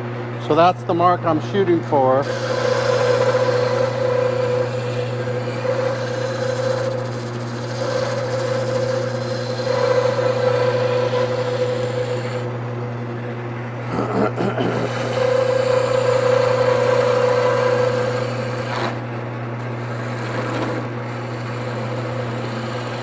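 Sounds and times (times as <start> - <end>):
lathe motor hum: 0.0 - 23.0
turning tool scraping wood: 0.4 - 12.5, 14.2 - 23.0.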